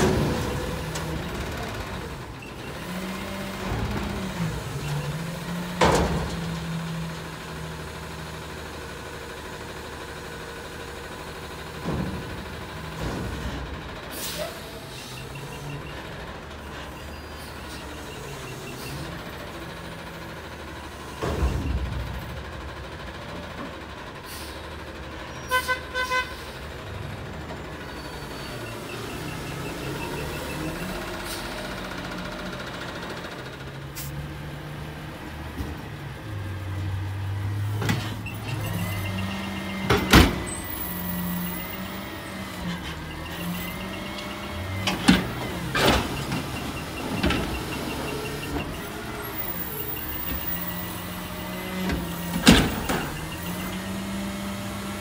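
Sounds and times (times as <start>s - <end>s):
garbage truck running: 0.0s - 55.0s.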